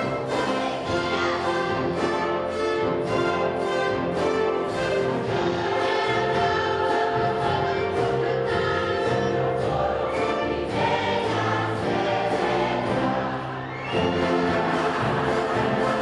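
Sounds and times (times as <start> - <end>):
brass band playing: 0.0 - 16.0
choir singing: 0.0 - 16.0.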